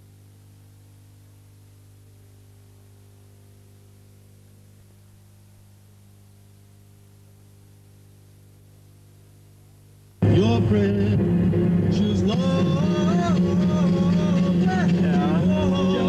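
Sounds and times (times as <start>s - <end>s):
faint hiss: 0.0s - 16.0s
low electrical hum: 0.0s - 16.0s.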